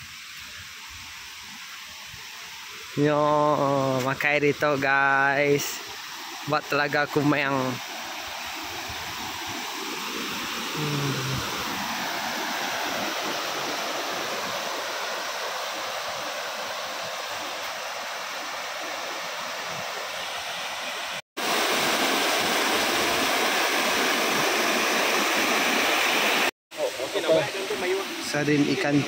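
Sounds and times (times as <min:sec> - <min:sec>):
waterfall rushing: 0:02.8 - 0:29.0.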